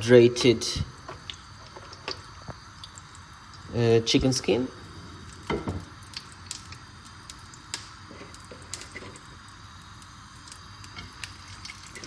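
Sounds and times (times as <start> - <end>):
chicken skin sizzling in fat: 0.0 - 12.0.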